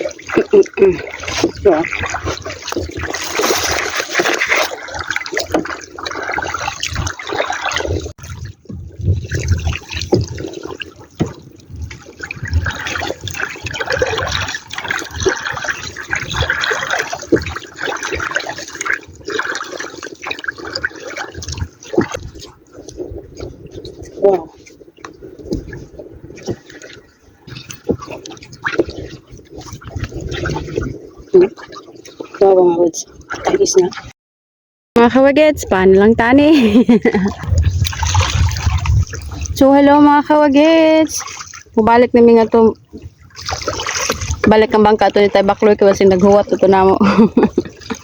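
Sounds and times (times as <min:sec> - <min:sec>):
water splashing and sloshing: 0:00.0 - 0:34.2, 0:35.0 - 0:48.0.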